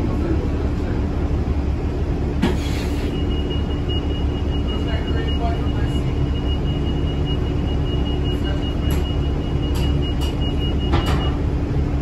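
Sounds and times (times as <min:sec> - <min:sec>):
bus engine and ventilation rumble: 0:00.0 - 0:12.0
constant hum: 0:00.0 - 0:12.0.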